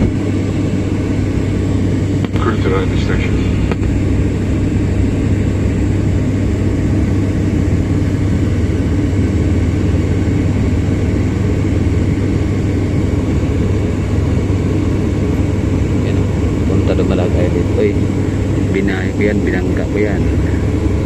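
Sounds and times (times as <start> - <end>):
airplane engine drone: 0.0 - 21.0.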